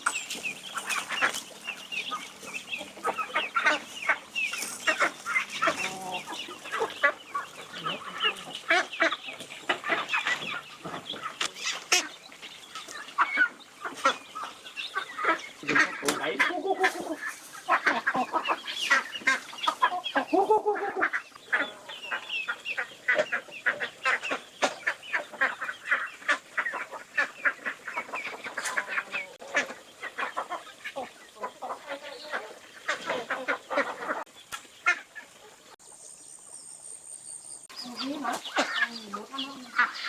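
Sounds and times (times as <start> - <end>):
geese or ducks honking: 0.0 - 35.7, 37.9 - 40.0
chickens clucking: 0.0 - 35.9, 37.6 - 40.0.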